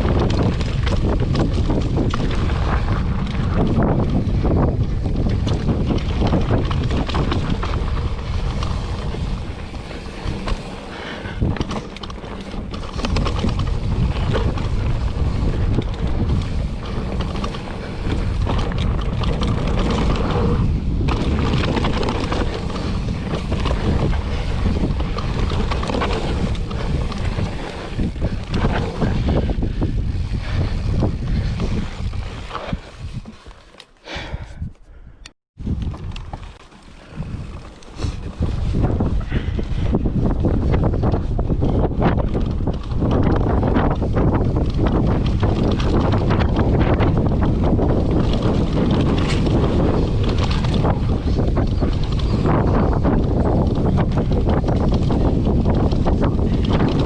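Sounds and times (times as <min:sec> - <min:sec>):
bike knocks and rattles: 0:00.0 - 0:33.9, 0:35.6 - 0:57.0
wind buffeting microphone: 0:00.0 - 0:57.0.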